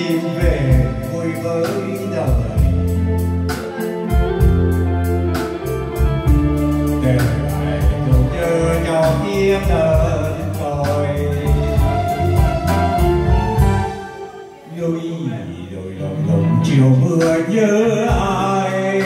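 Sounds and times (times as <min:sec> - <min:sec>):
bass: 0:00.0 - 0:14.0, 0:15.3 - 0:19.0
drum kit steady beat: 0:00.0 - 0:14.3, 0:17.2 - 0:19.0
held keyboard or guitar melody: 0:00.0 - 0:19.0.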